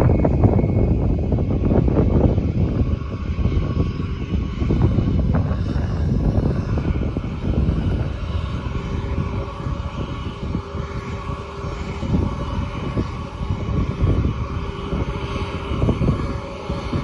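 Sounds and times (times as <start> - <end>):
jet engines whining: 0.0 - 17.0
low gusty rumble: 0.0 - 17.0.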